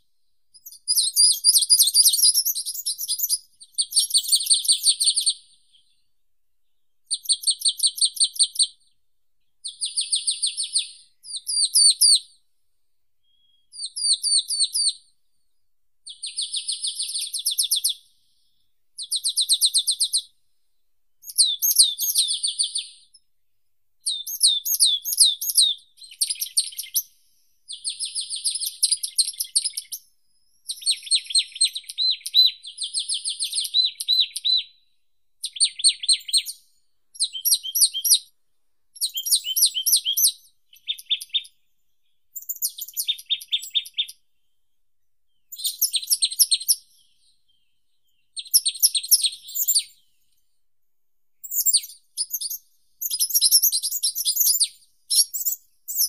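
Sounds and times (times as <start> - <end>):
songbird singing: 0.0 - 12.4, 13.2 - 23.4, 24.0 - 44.7, 45.3 - 50.4, 51.4 - 56.0.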